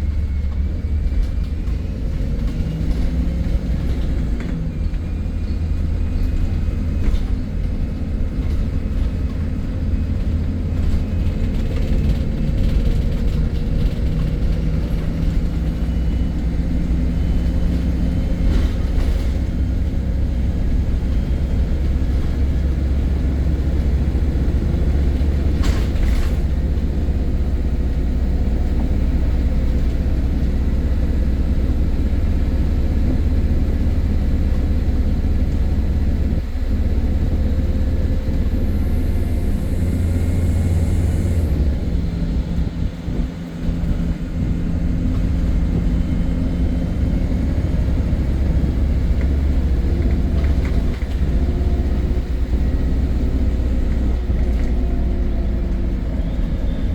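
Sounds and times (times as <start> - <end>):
bus engine drone: 0.0 - 56.9.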